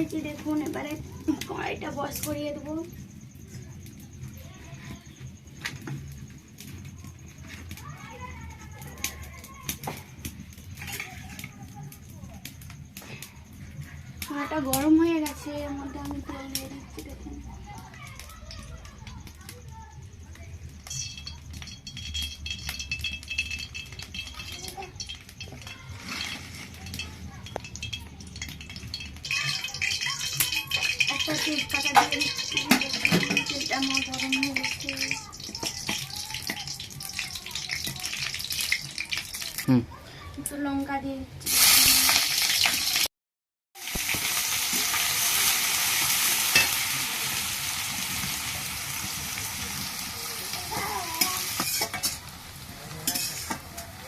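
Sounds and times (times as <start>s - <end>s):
hot oil crackling and spitting: 0.0s - 39.8s, 40.5s - 43.1s, 43.8s - 54.0s.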